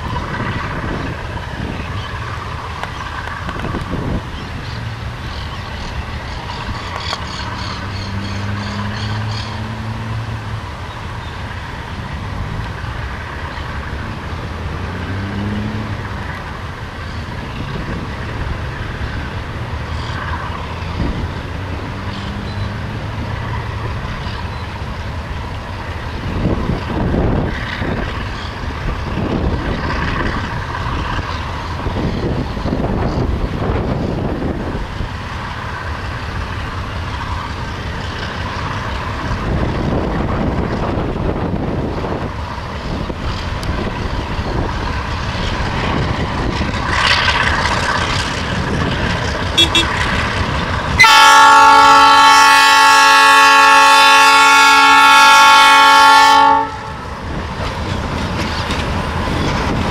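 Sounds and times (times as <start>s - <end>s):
diesel locomotive engine humming: 0.0s - 59.9s.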